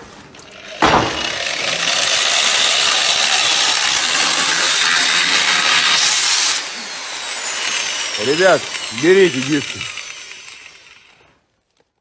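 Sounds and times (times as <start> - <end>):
angle grinder cutting metal: 0.5 - 11.3.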